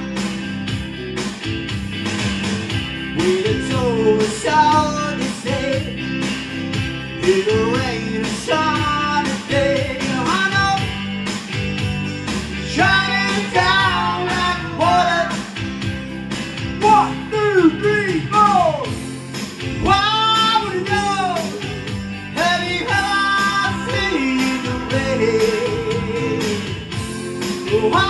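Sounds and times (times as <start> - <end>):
electric guitar lead line bending: 0.0 - 28.0
rock band playing: 0.0 - 28.0.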